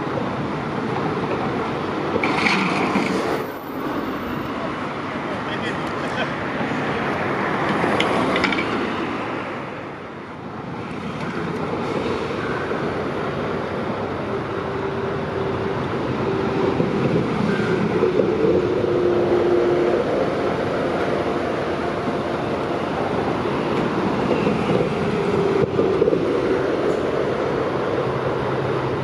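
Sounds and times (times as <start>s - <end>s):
car passing under bridge: 0.0s - 29.0s.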